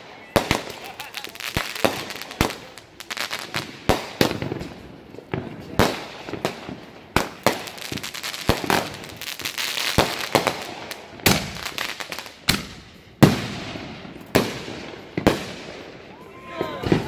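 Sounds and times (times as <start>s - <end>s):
firework bangs: 0.0s - 17.0s
firework crackling: 0.0s - 17.0s.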